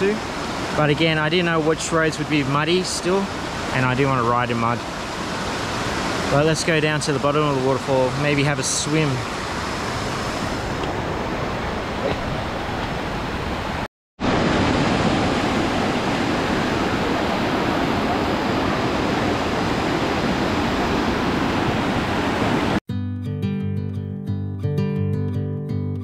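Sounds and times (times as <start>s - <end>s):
stream rushing over rocks: 0.0s - 22.8s.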